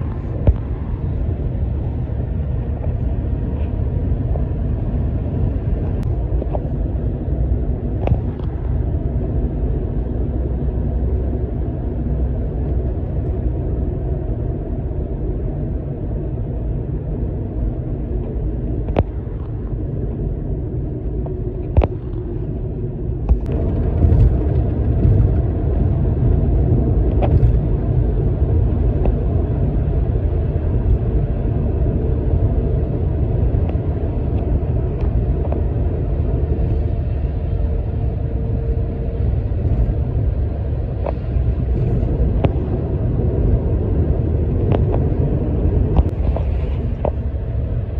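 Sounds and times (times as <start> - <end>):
road traffic rumble: 0.0 - 47.9.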